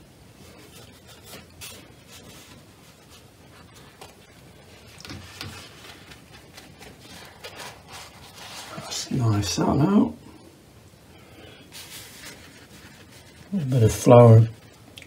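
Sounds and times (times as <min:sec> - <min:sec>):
brush blotted in paper tissue: 0:00.3 - 0:09.6, 0:11.7 - 0:14.7
brush rustling on paper: 0:00.3 - 0:09.8, 0:11.7 - 0:14.9.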